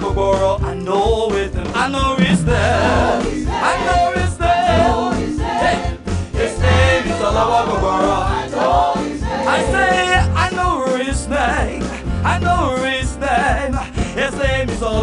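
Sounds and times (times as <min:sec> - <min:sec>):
gospel worship music: 0:00.0 - 0:15.0.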